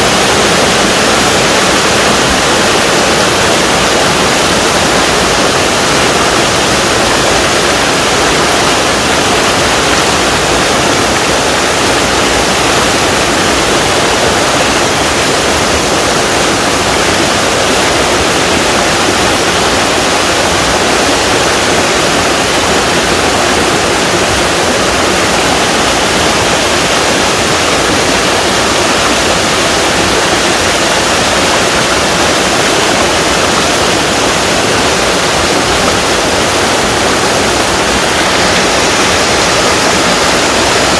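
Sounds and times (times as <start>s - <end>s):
small waterfall pouring: 0.0s - 40.9s.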